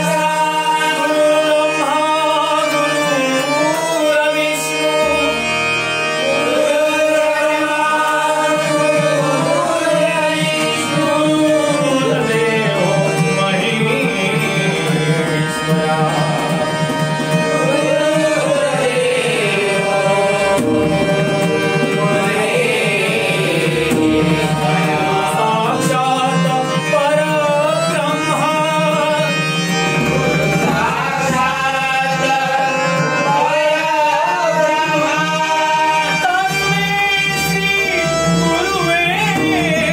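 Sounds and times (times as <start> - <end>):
harmonium tones: 0.0 - 39.9
person singing: 0.0 - 39.9
tabla beat: 6.4 - 39.9.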